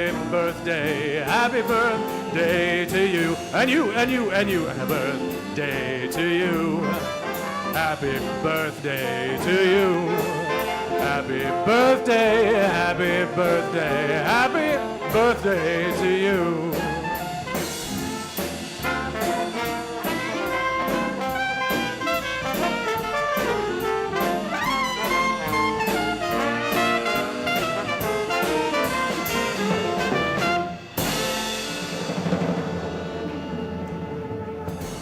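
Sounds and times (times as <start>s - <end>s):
swing band playing: 0.0s - 35.0s.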